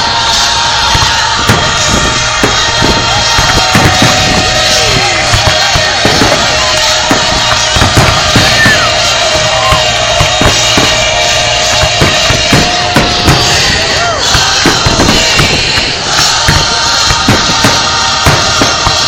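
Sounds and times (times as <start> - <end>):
firework bangs and cracks: 0.0 - 19.0
firework whistling: 0.0 - 19.0
music playing: 0.0 - 19.0.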